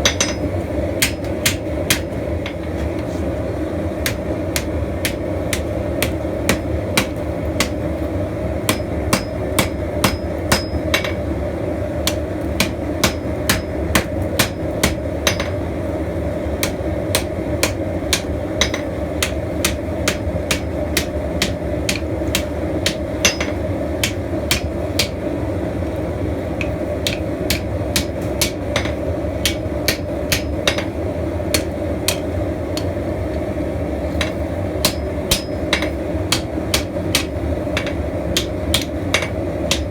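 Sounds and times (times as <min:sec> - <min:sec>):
hammer striking steel on anvil: 0:00.0 - 0:02.6, 0:04.0 - 0:07.9, 0:08.7 - 0:11.3, 0:12.0 - 0:15.6, 0:16.6 - 0:25.2, 0:26.6 - 0:33.0, 0:34.2 - 0:39.9.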